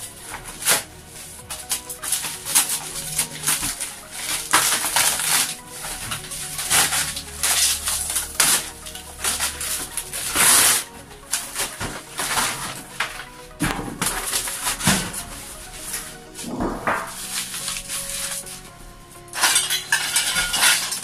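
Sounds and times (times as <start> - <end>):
cardboard tearing and crumpling: 0.0 - 16.0, 17.1 - 18.6.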